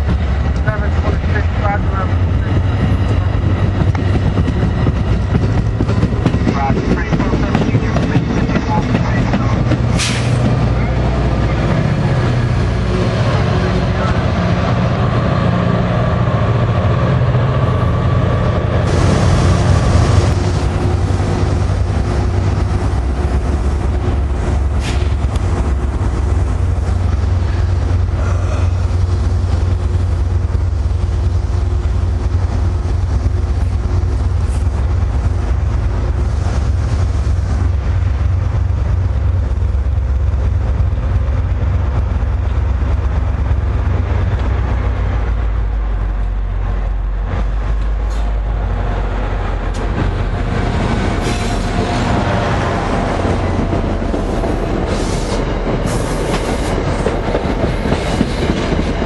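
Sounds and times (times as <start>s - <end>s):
rail cars rattling: 0.0s - 59.0s
train rumbling: 0.0s - 59.0s.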